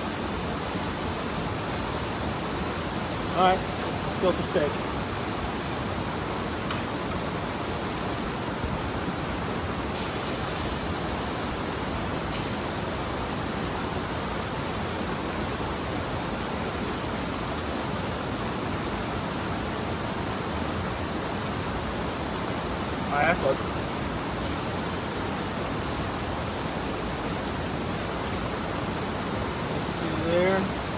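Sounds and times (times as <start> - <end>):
steak sizzling: 0.0 - 8.2, 10.0 - 30.9.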